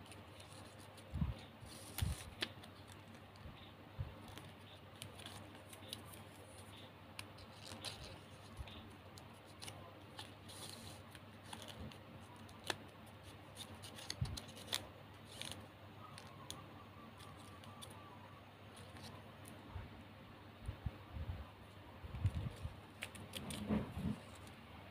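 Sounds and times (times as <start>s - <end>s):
faint low hum: 0.0s - 24.9s.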